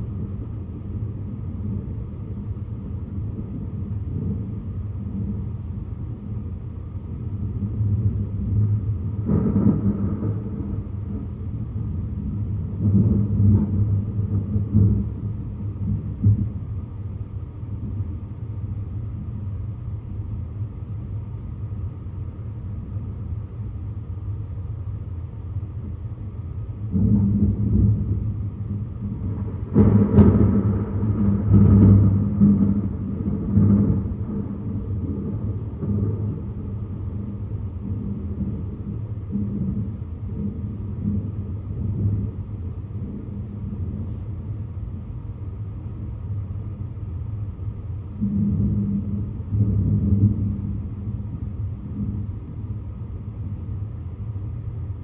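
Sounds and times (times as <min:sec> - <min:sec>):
deep rumbling thunder: 0:00.0 - 0:23.7, 0:25.8 - 0:55.0.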